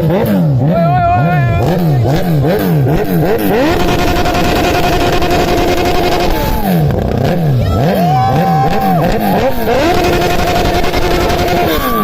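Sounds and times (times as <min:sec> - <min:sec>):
superbike engine revving: 0:00.0 - 0:12.0.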